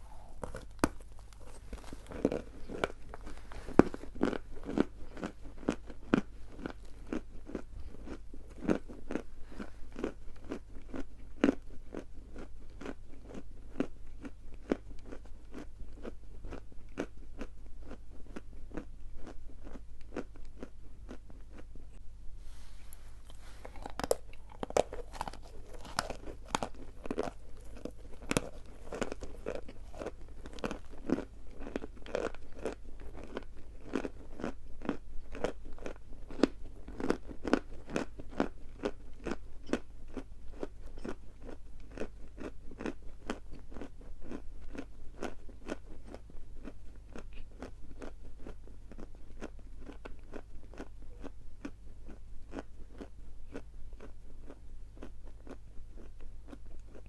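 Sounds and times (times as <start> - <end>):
chalk crunching while chewed: 0.4 - 21.8, 22.9 - 57.0.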